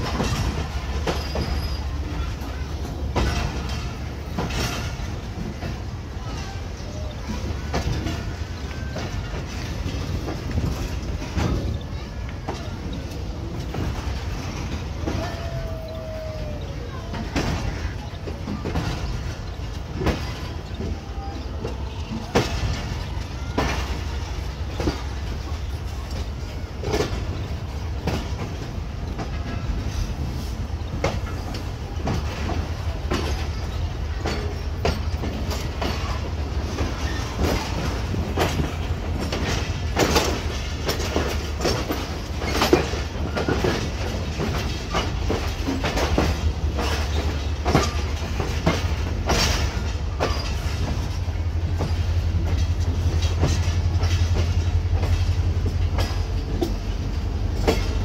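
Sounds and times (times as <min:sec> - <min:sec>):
low train rumble: 0:00.0 - 0:58.0
train wheels clattering over joints: 0:00.0 - 0:58.0.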